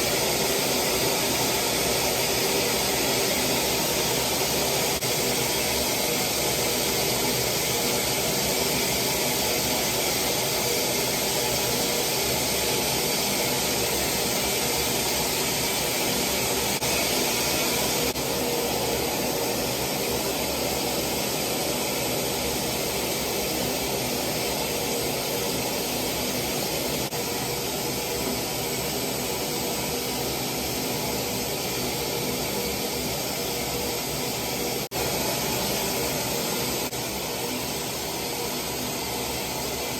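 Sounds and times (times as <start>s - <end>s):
hair dryer blowing: 0.0s - 31.1s, 31.7s - 39.9s.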